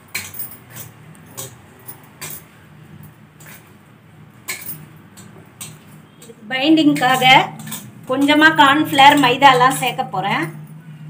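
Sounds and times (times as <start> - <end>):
bangles clinking: 0.0 - 3.8, 4.4 - 10.8.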